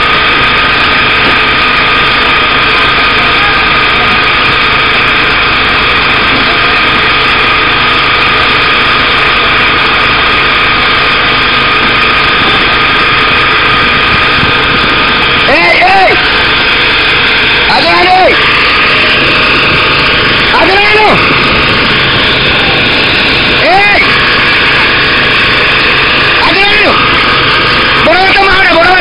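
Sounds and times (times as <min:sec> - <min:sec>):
boat engine and machinery drone: 0:00.0 - 0:29.0
steady high tone: 0:00.0 - 0:29.0.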